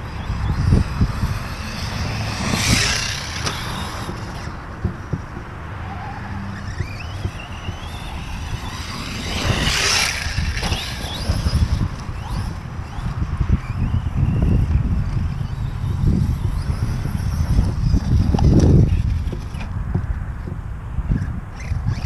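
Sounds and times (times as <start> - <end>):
electric motor whining: 0.0 - 5.4, 6.2 - 19.6
rushes of noise: 0.0 - 19.8
wind buffeting microphone: 0.0 - 22.0.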